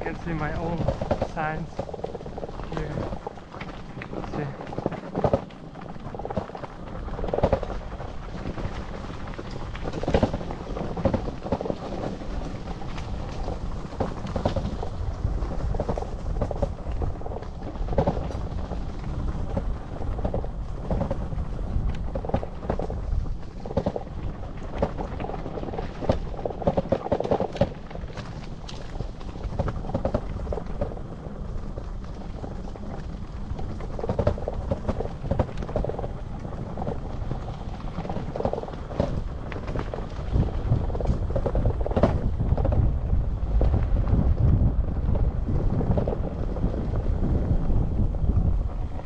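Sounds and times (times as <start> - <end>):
e-bike low rumble: 0.0 - 49.0
knocks and rattles: 0.0 - 49.0.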